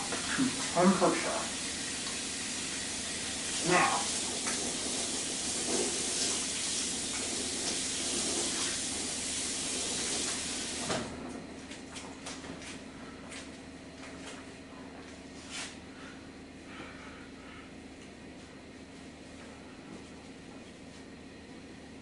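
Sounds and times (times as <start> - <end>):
oven fan hiss and hum: 0.0 - 22.0.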